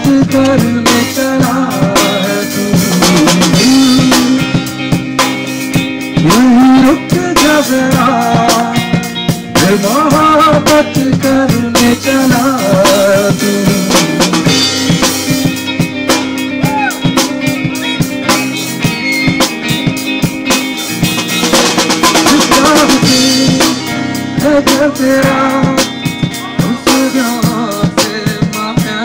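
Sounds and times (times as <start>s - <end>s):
drum kit beat: 0.0s - 29.0s
electric guitar: 0.0s - 29.0s
rock band playing: 0.0s - 29.0s.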